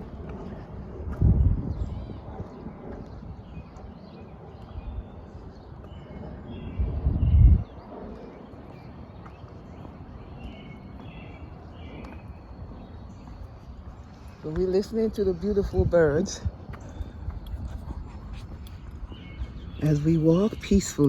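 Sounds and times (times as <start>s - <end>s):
low rumble: 0.0s - 21.0s
songbirds chirping: 0.0s - 21.0s.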